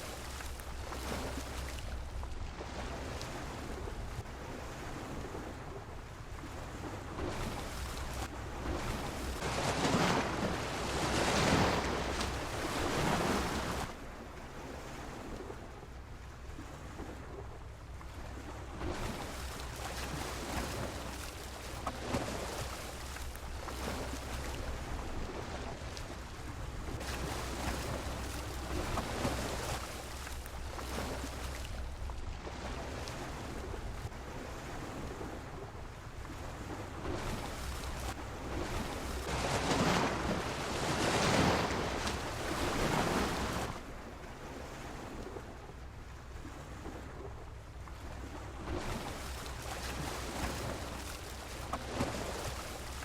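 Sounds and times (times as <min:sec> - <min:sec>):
sea waves washing against pier: 0:00.0 - 0:53.0
wind rumble on microphone: 0:00.0 - 0:53.0.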